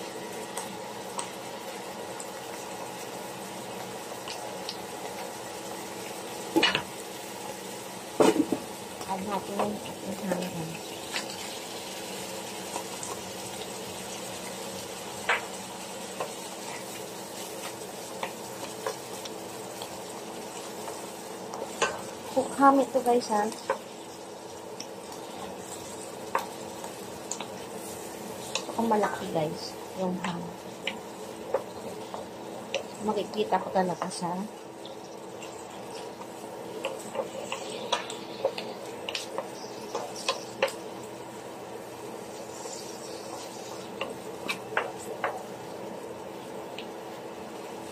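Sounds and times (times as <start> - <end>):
food sizzling in a pan: 0.0 - 47.9.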